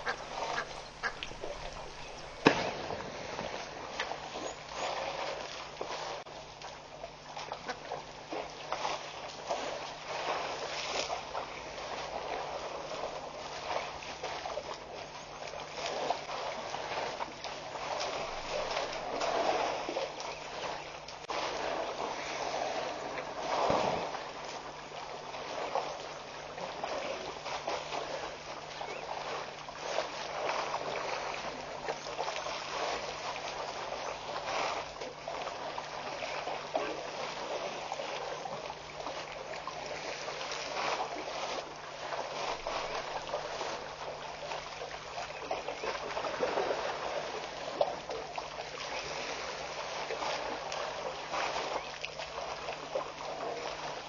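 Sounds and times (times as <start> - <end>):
faint low hum: 0.0 - 54.0
hiss of water and wind: 0.0 - 54.0.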